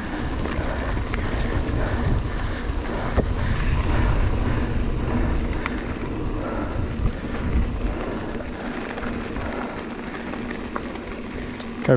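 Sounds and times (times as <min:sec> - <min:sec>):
wind on microphone: 0:00.0 - 0:09.8
bike knocking and rattling: 0:00.0 - 0:11.9
bike tyre noise on dirt: 0:00.0 - 0:11.9.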